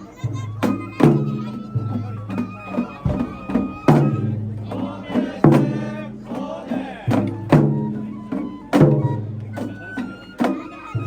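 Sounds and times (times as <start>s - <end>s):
crowd voices: 0.0s - 11.0s
traditional festival music: 0.0s - 11.0s.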